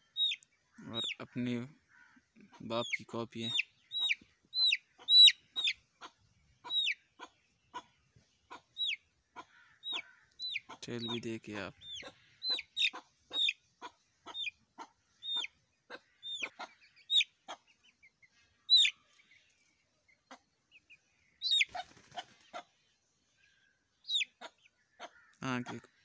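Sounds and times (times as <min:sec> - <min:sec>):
chick peeping: 0:00.1 - 0:01.8, 0:02.4 - 0:23.0, 0:23.9 - 0:25.9.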